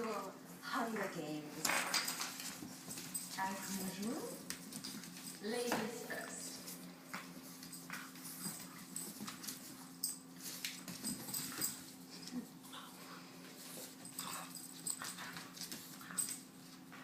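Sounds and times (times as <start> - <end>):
puppies scuffling: 0.9 - 17.0.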